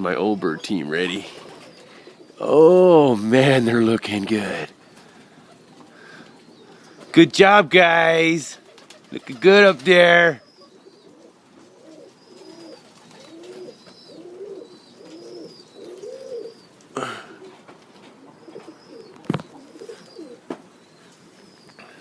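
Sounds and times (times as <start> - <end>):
pigeons cooing: 0.0 - 7.2, 7.9 - 22.0.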